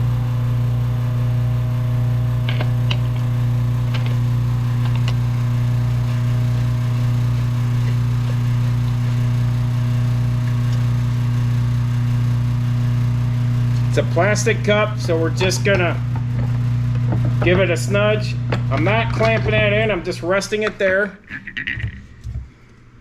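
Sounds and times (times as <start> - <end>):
air compressor humming: 0.0 - 23.0.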